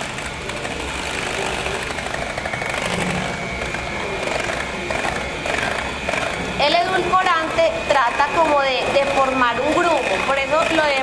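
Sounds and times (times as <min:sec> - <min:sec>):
electric mixer motor running: 0:00.0 - 0:11.0.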